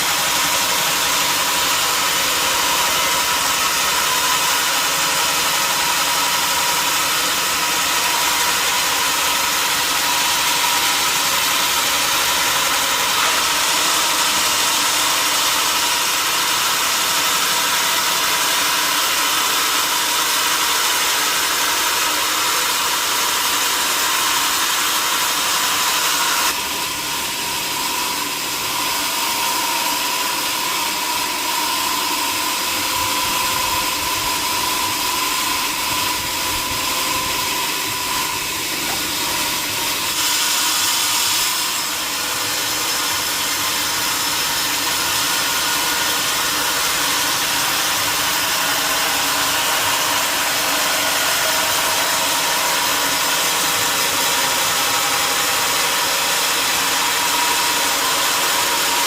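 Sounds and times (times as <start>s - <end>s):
saw whine: 0.0s - 59.0s
sawmill saw running: 0.0s - 59.0s.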